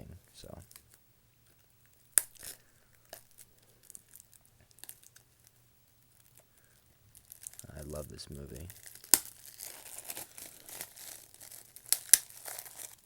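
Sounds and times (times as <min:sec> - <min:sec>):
plastic wrap tearing and crinkling: 0:01.6 - 0:13.0.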